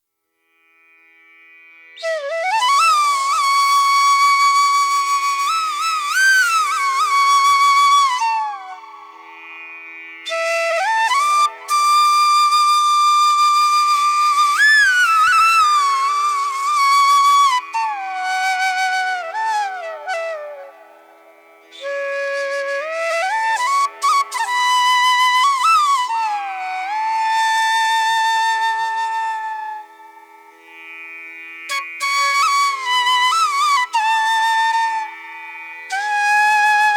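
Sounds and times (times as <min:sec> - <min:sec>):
flute melody: 0:02.0 - 0:09.2, 0:10.3 - 0:30.3, 0:31.7 - 0:36.9.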